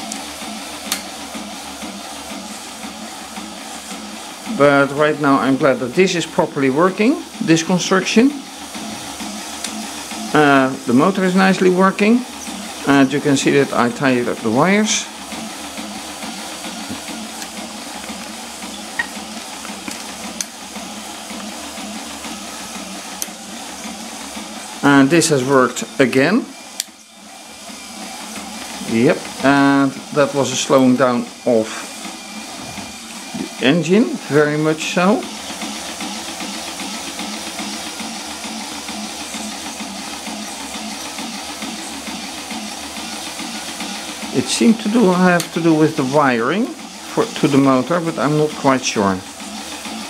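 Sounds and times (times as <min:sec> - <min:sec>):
small electric motor running: 0:00.0 - 0:50.0.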